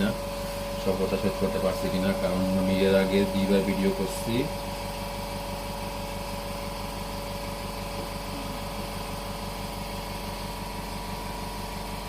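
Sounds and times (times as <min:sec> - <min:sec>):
steady machine hum with fast pulse: 0:00.0 - 0:12.0.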